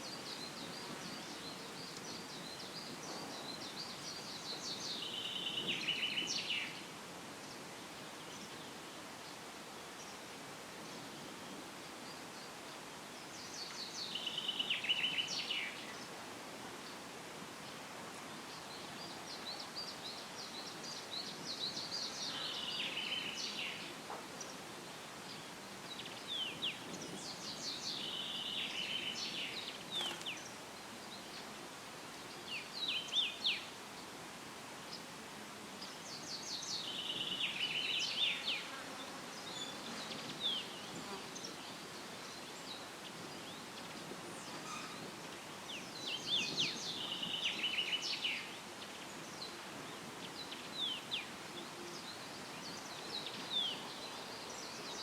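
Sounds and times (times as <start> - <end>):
leaves rustling in breeze: 0.0 - 55.0.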